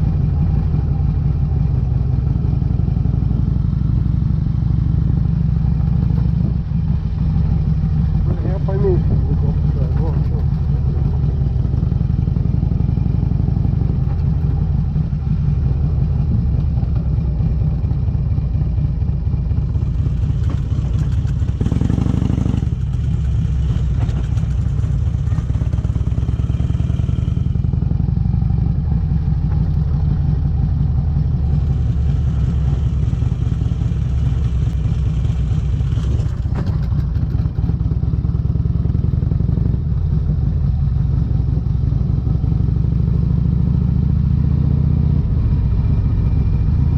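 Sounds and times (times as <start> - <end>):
motorcycle engine throbbing: 0.0 - 46.9.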